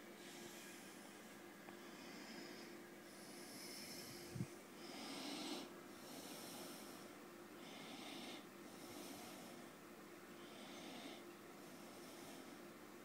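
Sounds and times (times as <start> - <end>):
soft close breathing: 0.0 - 12.8
steady low hum: 0.0 - 13.0.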